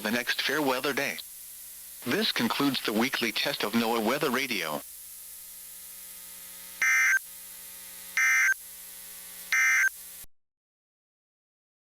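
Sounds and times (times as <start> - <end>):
buzzy digital data tones: 0.0 - 10.3
faint background hum: 0.0 - 10.3.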